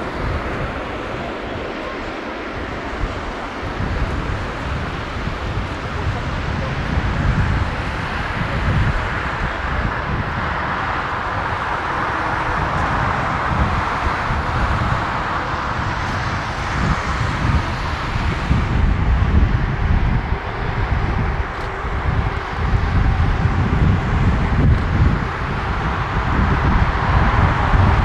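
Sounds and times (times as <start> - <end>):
jet engines roaring: 0.0 - 28.0
wind buffeting microphone: 0.0 - 28.0.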